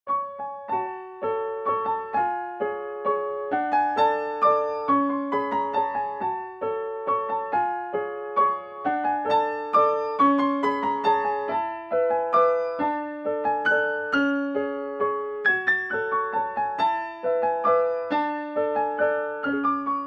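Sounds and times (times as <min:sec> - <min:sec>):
piano music: 0:00.1 - 0:20.0.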